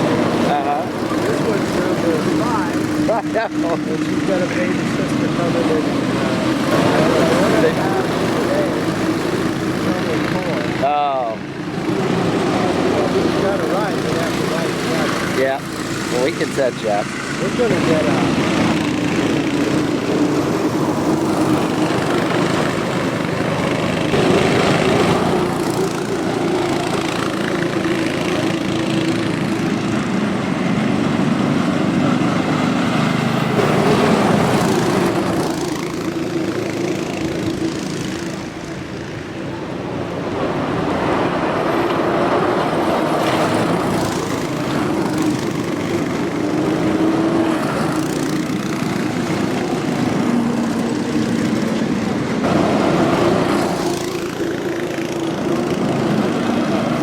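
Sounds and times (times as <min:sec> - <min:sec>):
small kart engines running: 0:00.0 - 0:57.0.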